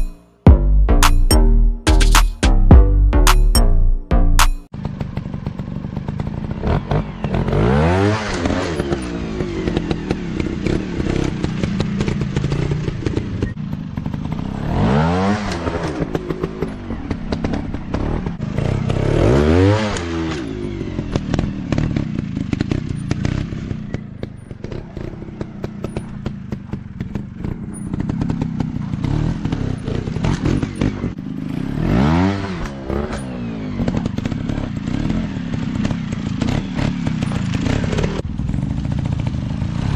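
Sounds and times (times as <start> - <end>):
dirt bike engines revving: 5.8 - 39.9.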